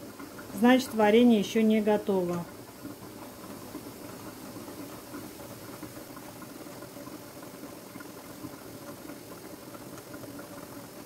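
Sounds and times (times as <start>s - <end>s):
jam bubbling in a metal pot: 0.0s - 11.0s.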